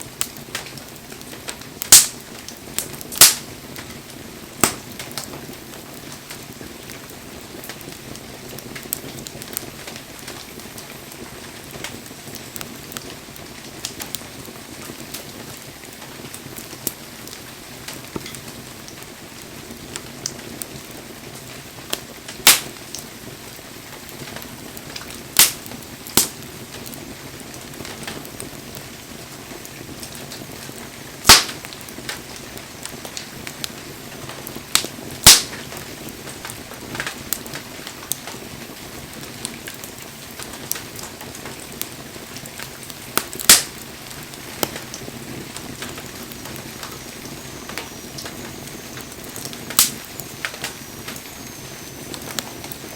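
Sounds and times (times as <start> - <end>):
campfire crackling: 0.0 - 52.9
loud sharp pops from burning logs: 0.0 - 52.9.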